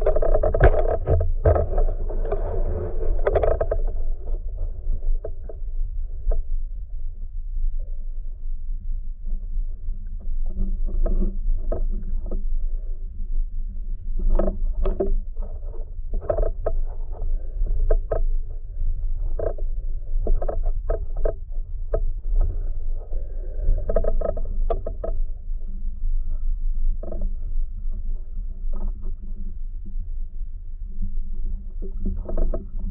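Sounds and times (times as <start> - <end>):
knocks and crackles of diver moving: 0.0 - 7.0, 9.3 - 32.9
muffled underwater rumble: 0.0 - 32.9.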